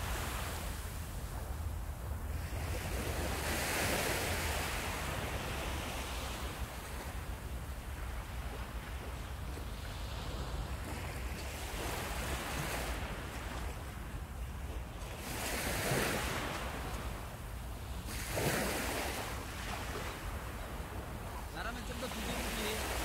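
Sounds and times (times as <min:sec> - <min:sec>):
sea surf breaking on shore: 0:00.0 - 0:23.0
wind rumble on microphone: 0:00.0 - 0:23.0.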